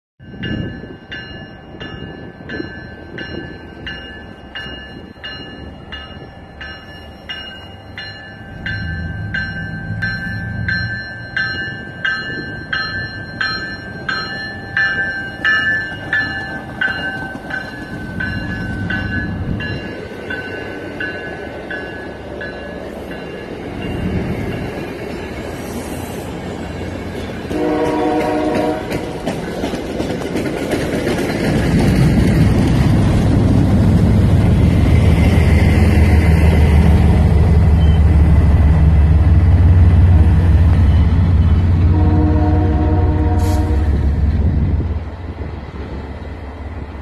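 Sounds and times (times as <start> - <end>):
train warning bell ringing: 0.2 - 29.7, 34.6 - 45.4
low rumble of train: 0.2 - 47.0.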